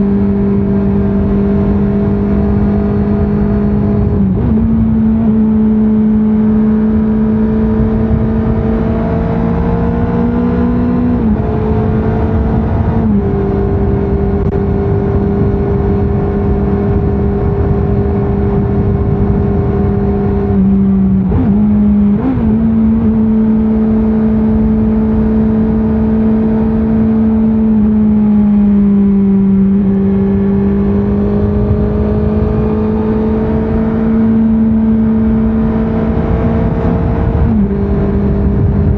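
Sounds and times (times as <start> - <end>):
motorcycle engine running: 0.0 - 10.1, 11.0 - 38.9.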